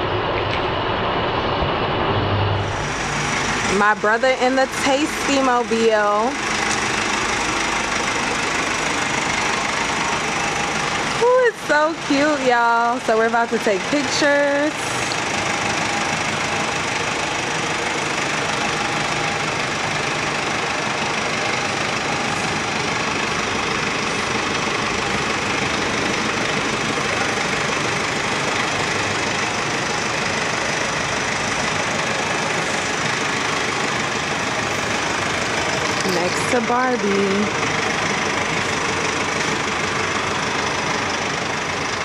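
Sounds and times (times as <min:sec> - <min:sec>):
van engine idling: 0:00.0 - 0:42.0.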